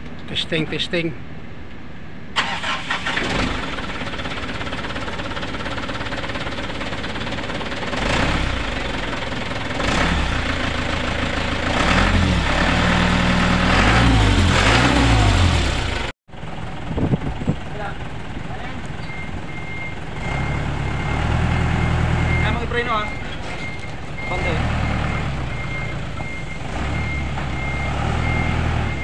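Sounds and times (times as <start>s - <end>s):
truck engine running and revving: 3.1s - 29.0s.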